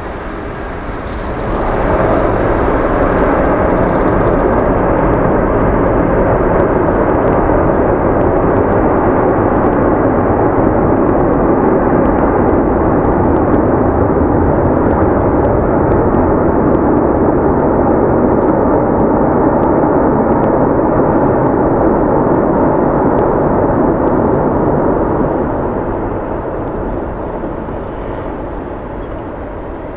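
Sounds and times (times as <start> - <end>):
jet engines in reverse thrust: 0.0 - 29.9.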